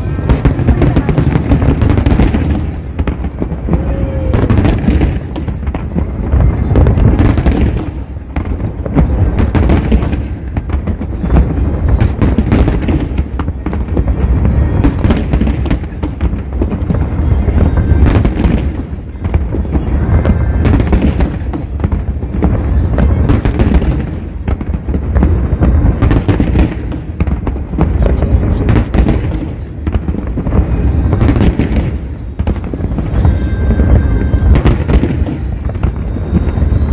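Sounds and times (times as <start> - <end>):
fireworks bangs and booms: 0.0 - 36.9.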